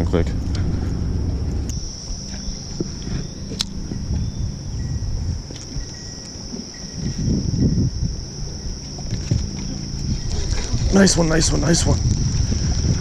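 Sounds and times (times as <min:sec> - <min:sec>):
insects chirring: 0:00.0 - 0:13.0
low rumble: 0:00.0 - 0:13.0.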